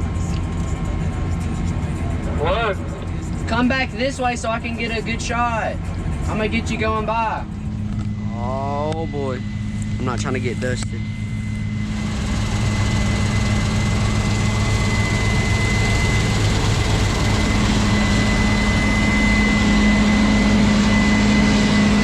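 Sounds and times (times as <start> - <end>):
diesel machinery engine drone: 0.0 - 22.0
thin high whine: 1.3 - 22.0.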